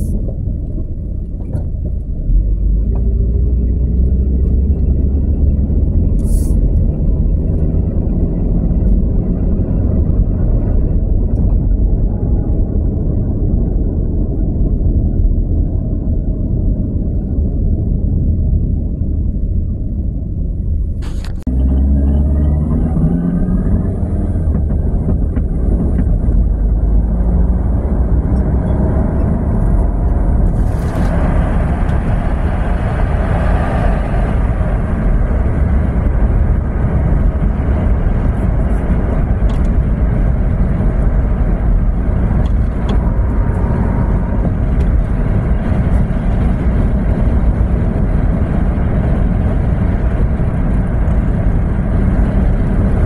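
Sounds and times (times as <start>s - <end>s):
car interior road rumble: 0.0s - 53.0s.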